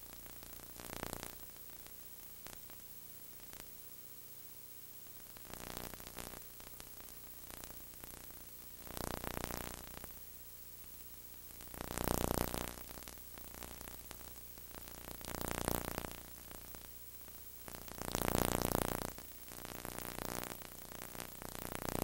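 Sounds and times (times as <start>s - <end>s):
tape hiss and hum: 0.0s - 22.0s.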